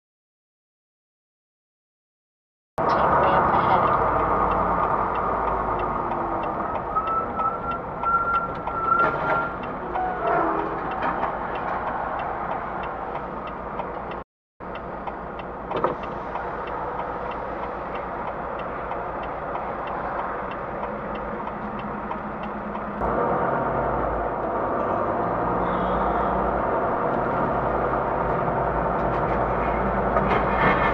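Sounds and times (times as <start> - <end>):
turn signal ticking: 2.8 - 30.3
truck engine and road noise: 2.8 - 30.9.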